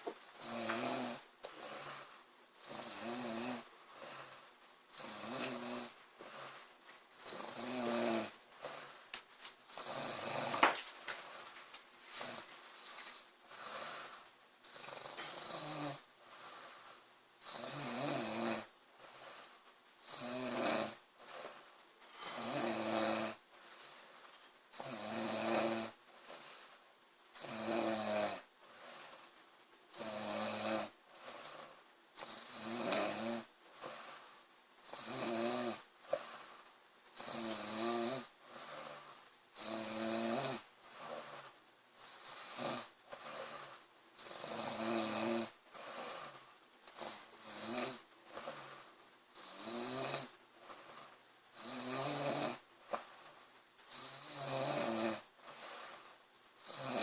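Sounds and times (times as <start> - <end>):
girl snoring loudly: 0.3 - 6.6, 7.2 - 8.9, 9.7 - 10.8, 12.1 - 23.4, 24.8 - 26.5, 27.4 - 29.2, 29.9 - 36.6, 37.2 - 52.7, 53.9 - 57.0.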